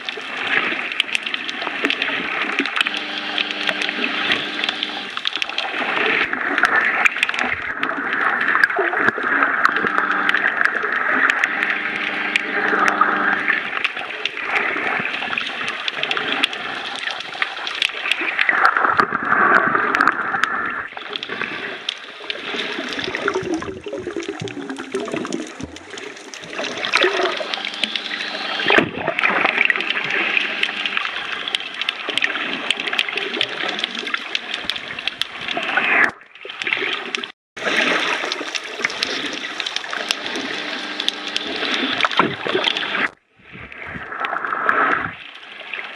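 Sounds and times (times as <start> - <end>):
water sloshing and gurgling underwater: 0.0 - 45.9.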